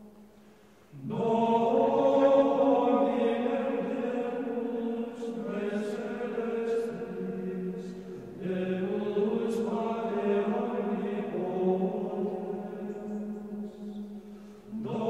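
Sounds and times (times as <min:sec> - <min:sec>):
voices singing a slow chant: 0:00.0 - 0:15.0.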